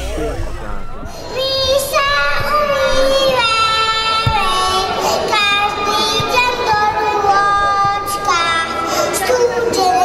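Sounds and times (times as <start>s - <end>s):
girl singing through loudspeaker: 1.1s - 10.0s.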